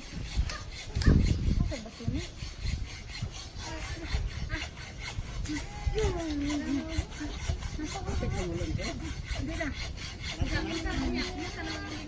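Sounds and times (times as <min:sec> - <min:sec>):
handsaw cutting wood: 0:00.0 - 0:12.0
voices talking: 0:00.4 - 0:02.4, 0:03.5 - 0:12.0.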